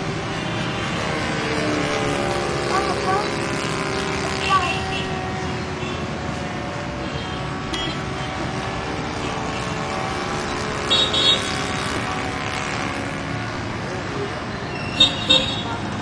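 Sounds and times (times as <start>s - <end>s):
model airplane engine droning: 0.1s - 13.9s.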